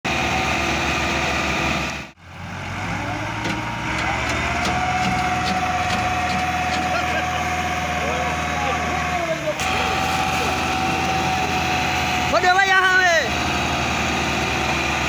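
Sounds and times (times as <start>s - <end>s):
tractor diesel engine under load: 0.1s - 15.0s.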